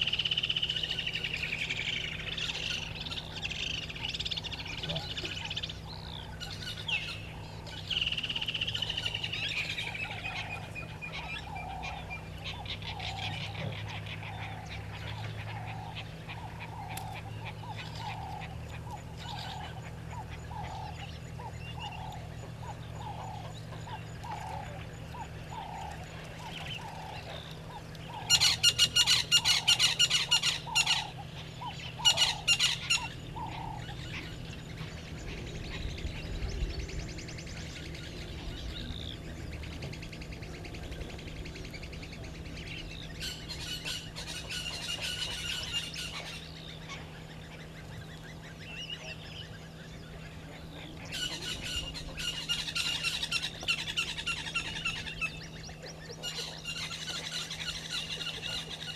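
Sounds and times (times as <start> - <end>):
birds calling low falling notes: 0.0 - 58.9
low steady hum: 0.0 - 58.9
rapid sharp bird calls: 0.0 - 58.9.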